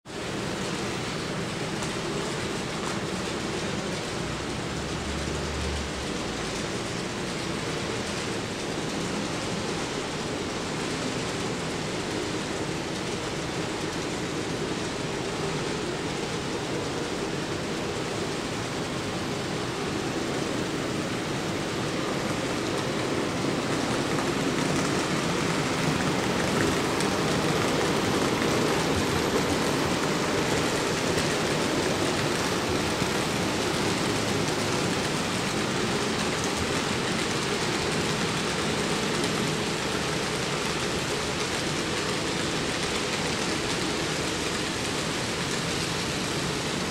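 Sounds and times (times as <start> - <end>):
model train wheels on rail: 0.0 - 46.9.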